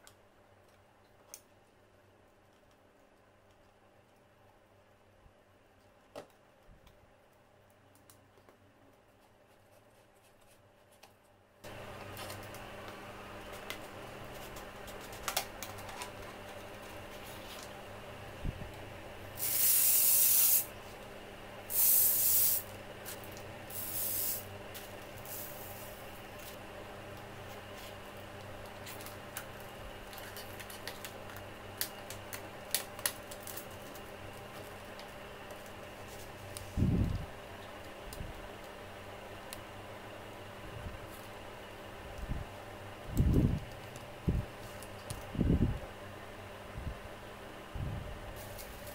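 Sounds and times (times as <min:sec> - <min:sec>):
steady hiss and hum: 0:00.0 - 0:48.9.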